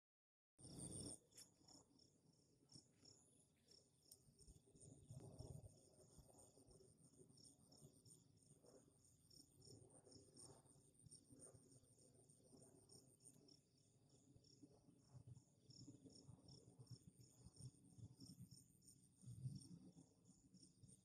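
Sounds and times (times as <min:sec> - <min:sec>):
crickets chirping: 0:00.6 - 0:21.0.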